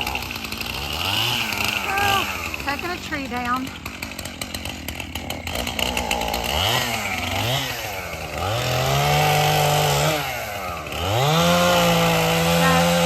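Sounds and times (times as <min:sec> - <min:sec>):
chainsaw engine idling and revving: 0:00.0 - 0:13.0.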